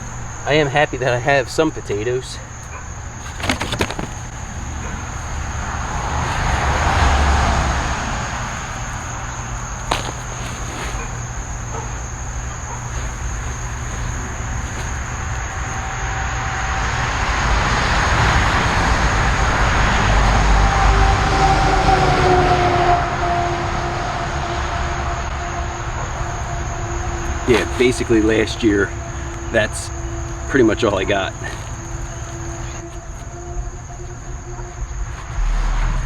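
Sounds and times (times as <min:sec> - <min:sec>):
passing vehicle rumbling: 0:00.0 - 0:36.0.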